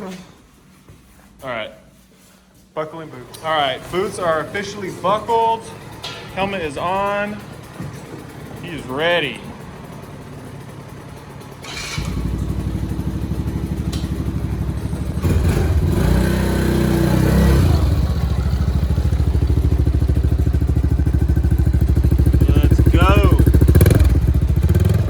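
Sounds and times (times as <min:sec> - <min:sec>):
dirt bike engine idling and revving: 0:03.4 - 0:25.0.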